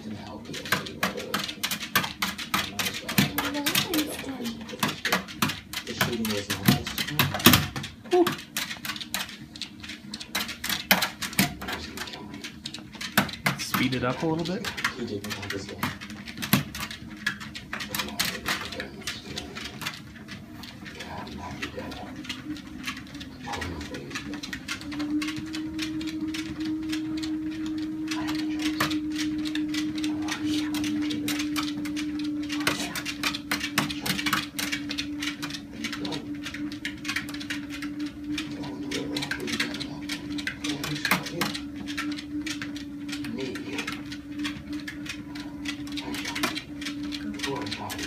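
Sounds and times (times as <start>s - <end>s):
dog paws pattering on belt: 0.0s - 48.0s
treadmill motor whining: 0.0s - 48.0s.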